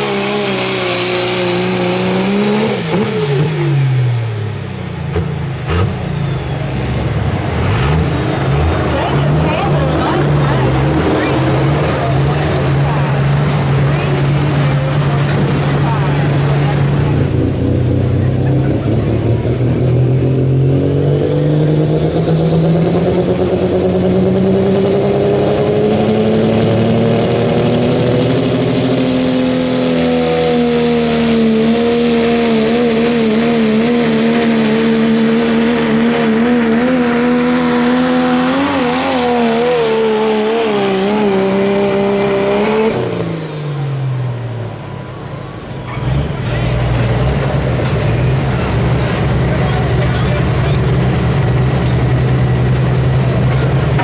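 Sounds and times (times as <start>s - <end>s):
engine running at full power: 0.0s - 54.0s.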